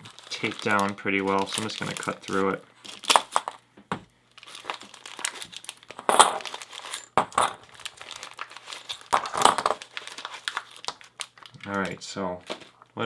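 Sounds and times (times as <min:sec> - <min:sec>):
packaging tearing: 0:00.0 - 0:03.5, 0:04.4 - 0:12.7
packaging crinkling and rustling: 0:00.0 - 0:03.6, 0:04.3 - 0:12.9.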